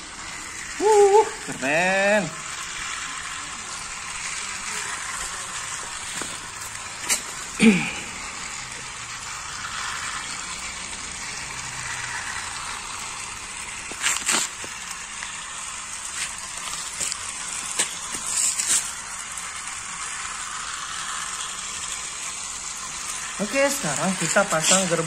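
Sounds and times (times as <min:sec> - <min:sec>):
toy trains whirring: 0:00.0 - 0:25.0.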